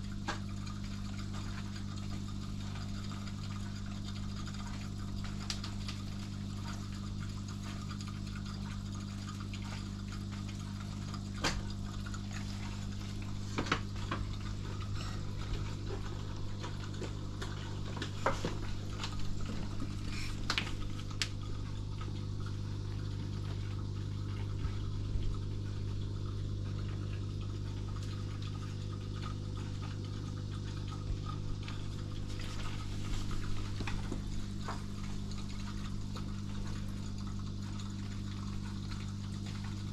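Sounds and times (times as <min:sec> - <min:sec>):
low equipment hum: 0:00.0 - 0:39.9
water bubbling and trickling: 0:00.0 - 0:39.9.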